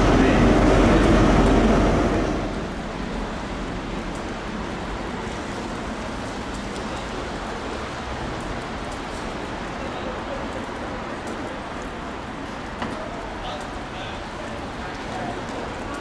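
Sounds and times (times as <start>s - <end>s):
passing train: 0.0s - 16.0s.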